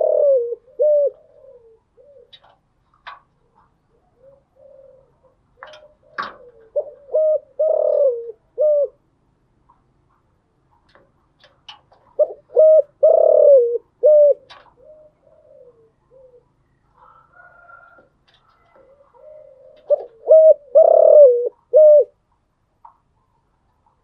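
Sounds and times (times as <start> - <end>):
dove cooing: 0.0 - 9.0, 12.0 - 22.3.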